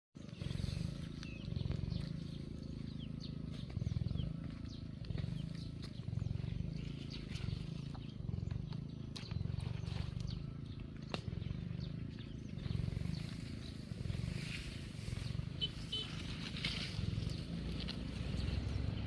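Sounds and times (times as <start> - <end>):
low pulsing animal call: 0.2 - 19.0.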